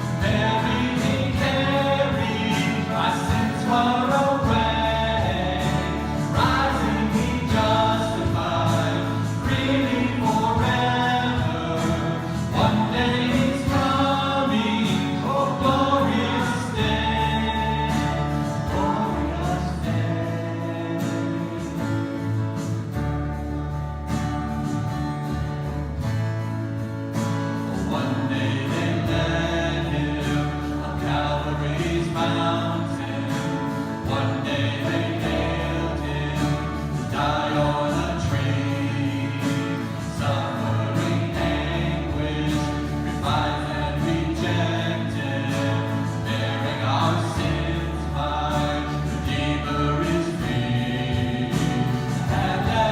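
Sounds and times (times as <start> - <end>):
congregation singing a hymn: 0.0 - 26.0, 27.1 - 52.9
instrumental accompaniment: 0.0 - 52.9.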